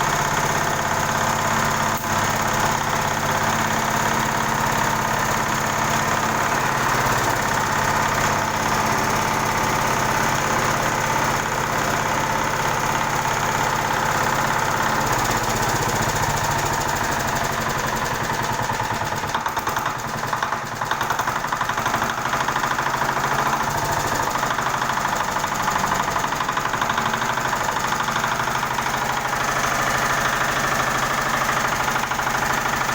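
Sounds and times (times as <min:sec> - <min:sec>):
small engine knocking: 0:00.0 - 0:32.9.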